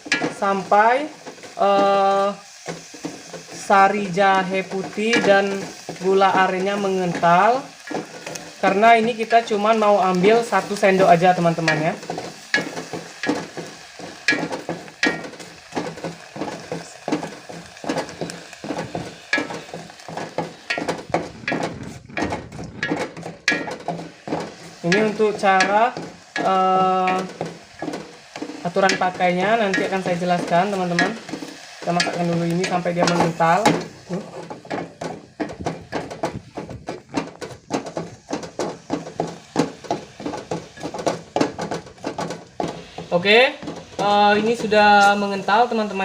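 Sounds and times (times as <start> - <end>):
utensil scraping metal pot: 0.0 - 46.0.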